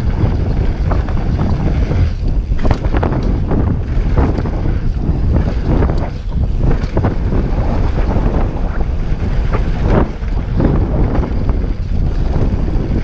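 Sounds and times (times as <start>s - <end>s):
bike clattering over bumps: 0.0s - 13.0s
tyres rumbling on dirt: 0.0s - 13.0s
wind rushing over microphone: 0.0s - 13.0s.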